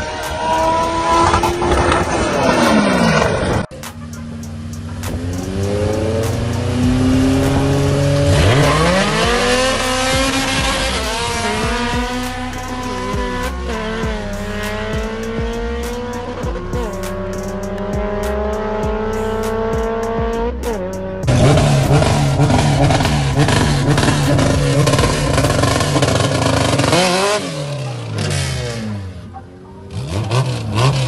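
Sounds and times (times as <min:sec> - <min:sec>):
engine revving rough and crackling: 0:00.0 - 0:31.0
race car engines accelerating: 0:00.0 - 0:31.0.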